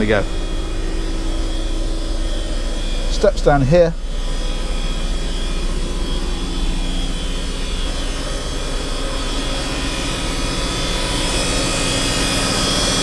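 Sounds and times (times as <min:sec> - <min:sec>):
diesel generators droning: 0:00.0 - 0:13.0.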